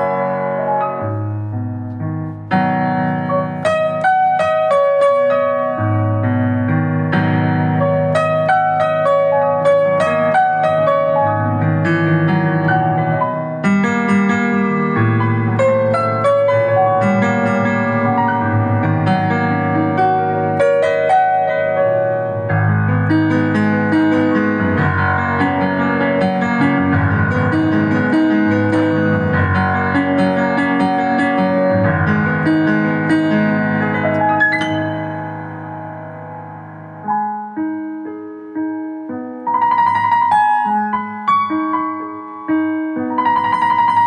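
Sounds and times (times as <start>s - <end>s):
solo piano piece: 0.0s - 44.0s.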